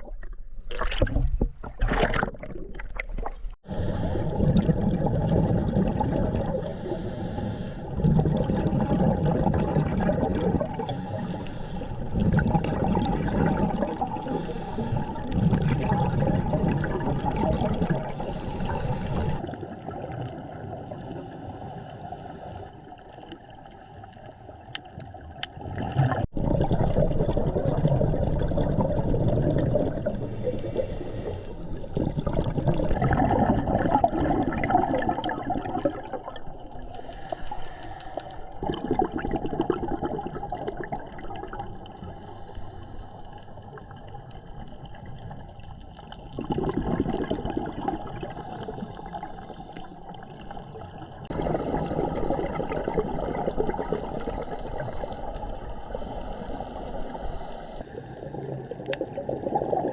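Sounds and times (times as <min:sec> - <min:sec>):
sea water sloshing: 0:00.0 - 0:59.9.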